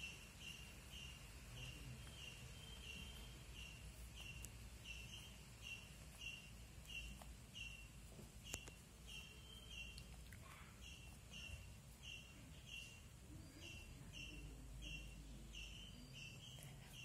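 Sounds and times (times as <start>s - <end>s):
animal chirping: 0.0s - 17.0s
faint low hum: 0.0s - 17.0s.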